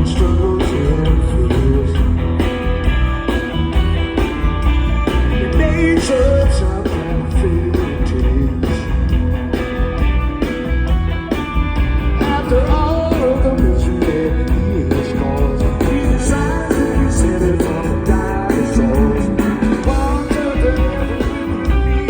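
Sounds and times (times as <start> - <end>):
heavy steady bass line: 0.0 - 22.0
live rock band playing: 0.0 - 22.0.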